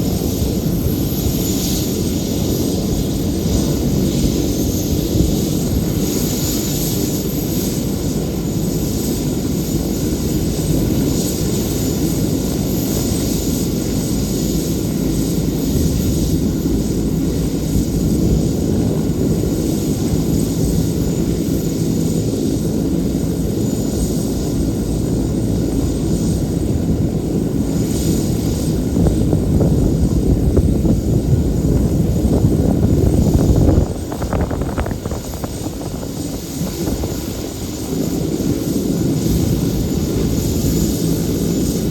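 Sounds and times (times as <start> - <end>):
helicopter engines running: 0.0 - 41.9.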